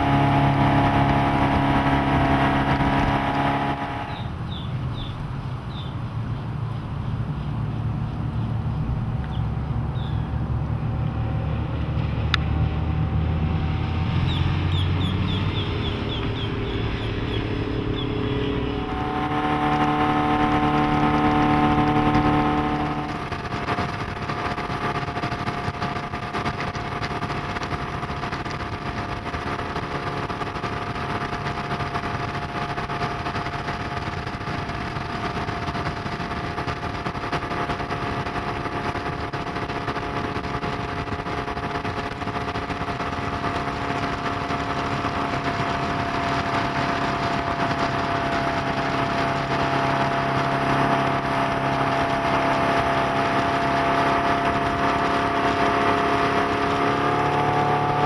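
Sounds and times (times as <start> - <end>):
rushing water noise: 0.0 - 5.8, 9.8 - 58.0
boat engine humming: 0.0 - 58.0.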